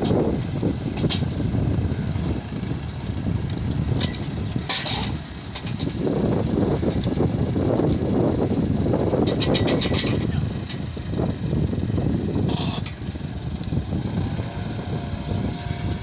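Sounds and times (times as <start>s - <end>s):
tractor engine rumbling: 0.0s - 16.0s.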